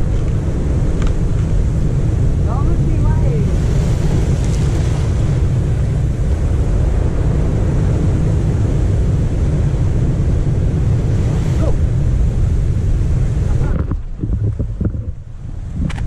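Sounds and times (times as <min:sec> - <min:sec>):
surf breaking on rocks: 0:00.0 - 0:16.0
wind buffeting microphone: 0:00.0 - 0:16.0.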